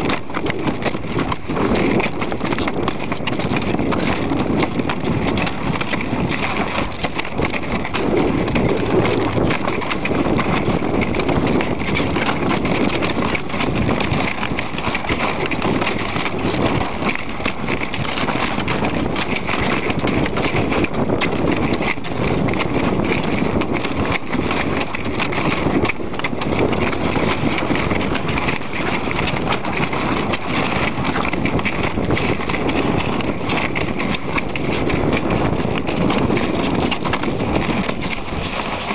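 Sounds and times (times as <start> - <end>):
sled runners scraping on ice: 0.0 - 38.9.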